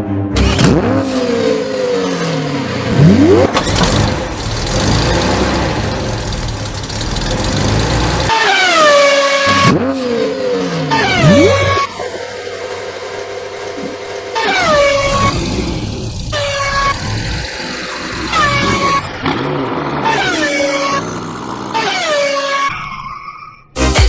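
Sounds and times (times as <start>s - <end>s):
car engine revving: 0.3s - 22.7s.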